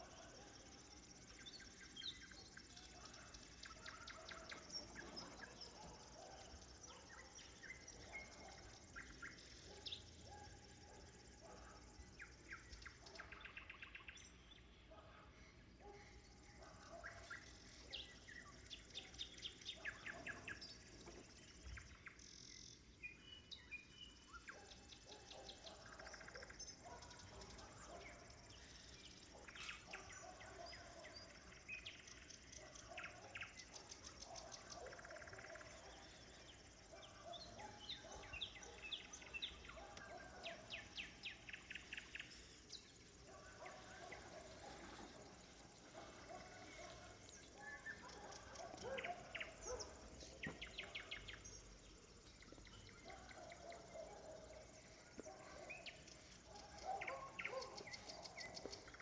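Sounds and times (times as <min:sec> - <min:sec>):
faint nightingale song: 0:00.0 - 0:59.0.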